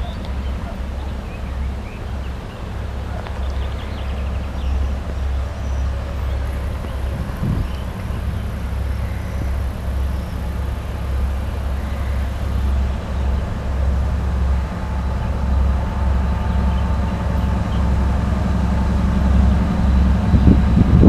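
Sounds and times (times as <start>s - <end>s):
diesel locomotive engine rumbling: 0.0s - 21.0s.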